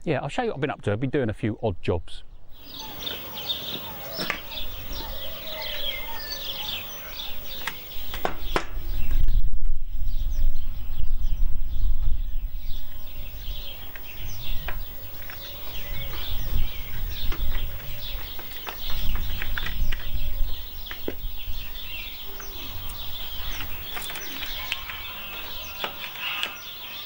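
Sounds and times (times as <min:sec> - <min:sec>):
small birds chirping: 0:02.1 - 0:27.0
wind buffeting microphone: 0:02.4 - 0:27.0.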